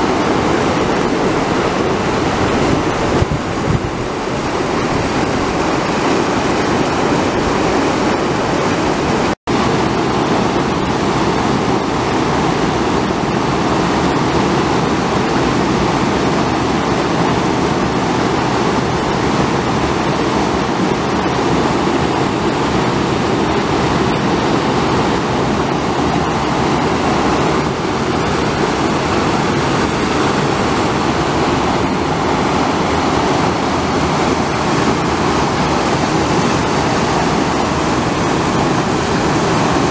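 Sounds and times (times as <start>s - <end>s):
flash flood torrent rushing: 0.0s - 39.9s.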